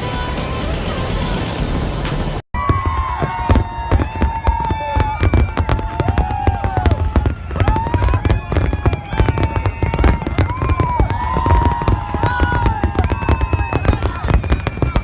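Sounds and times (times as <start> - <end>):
fireworks bangs and crackling: 0.0 - 15.0
firework whistles: 2.6 - 15.0.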